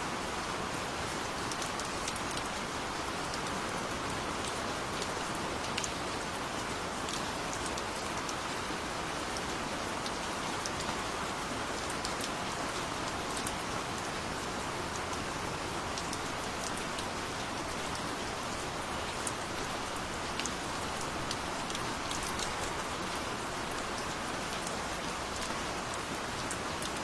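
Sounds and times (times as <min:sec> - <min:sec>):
rain pattering: 0:00.1 - 0:27.0.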